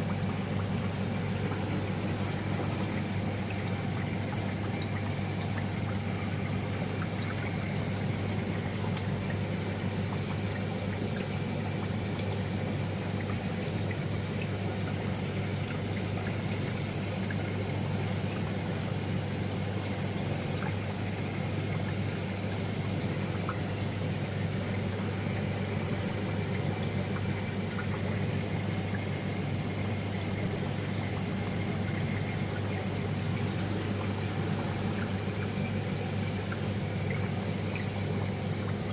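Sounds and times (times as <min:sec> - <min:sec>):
low pump hum: 0:00.0 - 0:38.9
water flowing and trickling: 0:00.0 - 0:38.9.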